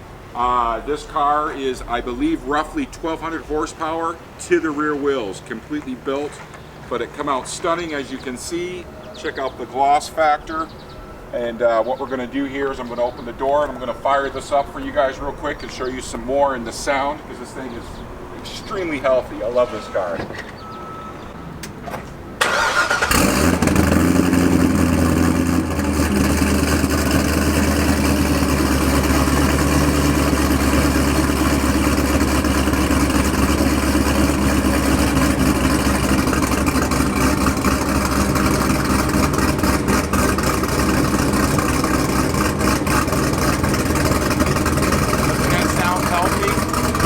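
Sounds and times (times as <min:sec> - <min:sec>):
car engine starting and idling: 0:00.0 - 0:47.0.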